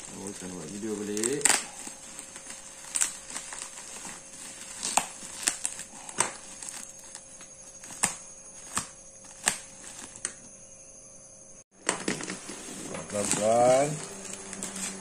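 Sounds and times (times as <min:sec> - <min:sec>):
bubble wrap and tape crinkling: 0:00.0 - 0:10.4, 0:11.9 - 0:15.0.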